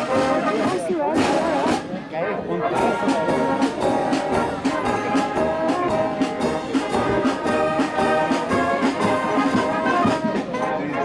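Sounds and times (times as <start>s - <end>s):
steady drum beat: 0.0s - 2.0s, 2.8s - 10.5s
brass band playing a march: 0.0s - 11.0s.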